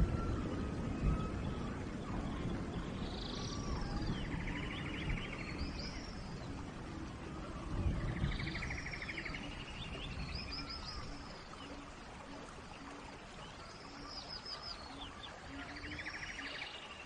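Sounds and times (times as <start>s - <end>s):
songbird singing trill: 0.0s - 17.0s
steady rain hiss: 0.0s - 17.0s.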